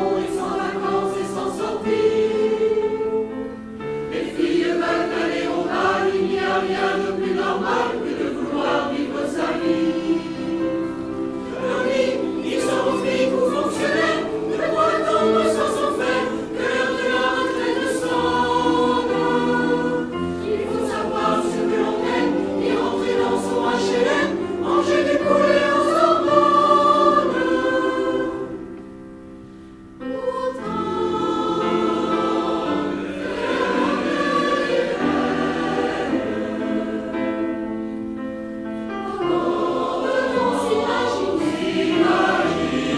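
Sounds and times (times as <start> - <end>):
mixed choir singing: 0.0 - 29.0, 30.0 - 42.9.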